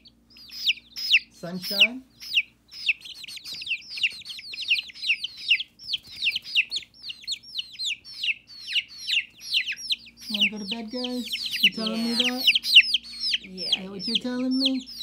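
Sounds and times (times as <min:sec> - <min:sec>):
baby chicks peeping: 0:00.0 - 0:15.0.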